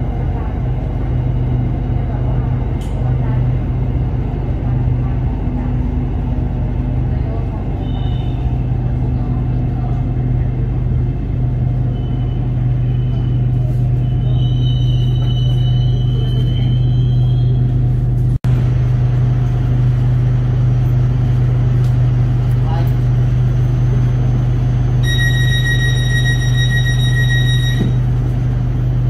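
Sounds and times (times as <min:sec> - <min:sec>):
train rumble and hum: 0:00.0 - 0:29.0.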